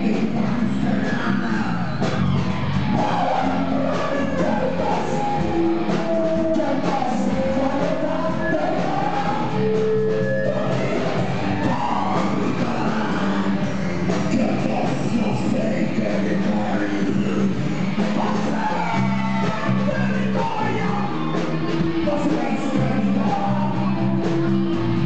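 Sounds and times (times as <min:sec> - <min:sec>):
person singing: 0:00.0 - 0:02.1, 0:02.9 - 0:25.0
rock band playing: 0:00.0 - 0:25.0.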